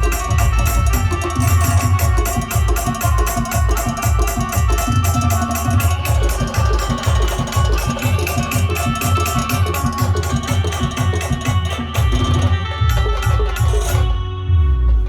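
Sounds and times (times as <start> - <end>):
fast dense drumming: 0.0 - 14.2.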